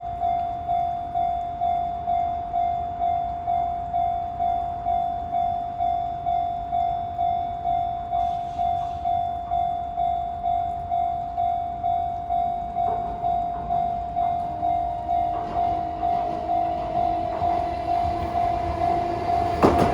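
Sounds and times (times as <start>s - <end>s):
level-crossing warning bell ringing: 0.0s - 19.9s.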